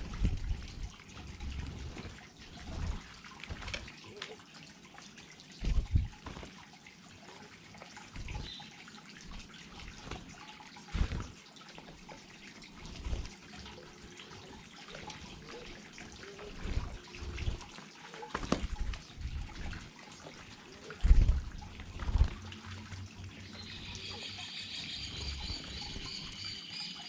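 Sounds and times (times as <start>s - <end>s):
water trickling and splashing: 0.0s - 27.0s.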